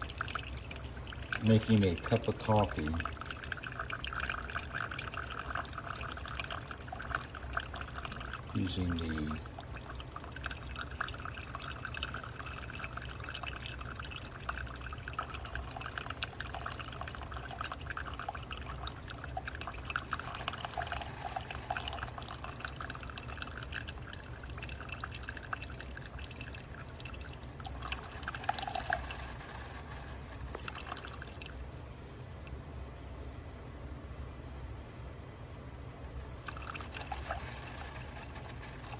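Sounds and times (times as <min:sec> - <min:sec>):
coffee maker humming: 0:00.0 - 0:32.5, 0:36.1 - 0:38.9
coffee pouring into a mug: 0:00.0 - 0:32.5, 0:36.2 - 0:38.9.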